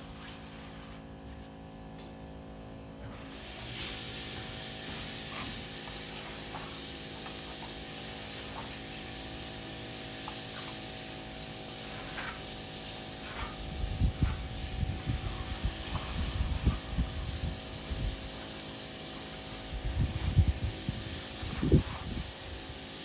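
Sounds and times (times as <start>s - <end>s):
spray nozzle hissing: 3.1s - 23.0s.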